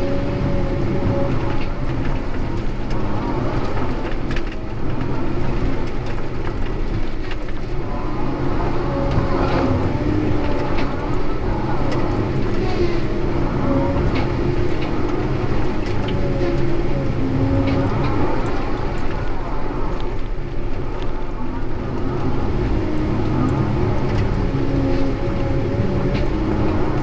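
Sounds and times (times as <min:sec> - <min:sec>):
heavy diesel machinery running: 0:00.0 - 0:27.0
wavering whine: 0:00.0 - 0:27.0.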